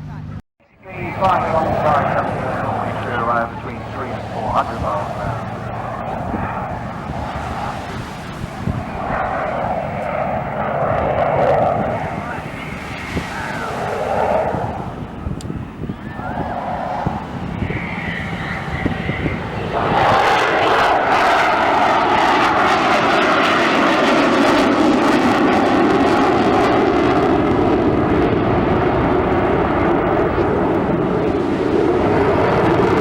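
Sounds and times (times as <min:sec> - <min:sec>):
aircraft engine in flight: 0:00.0 - 0:33.0.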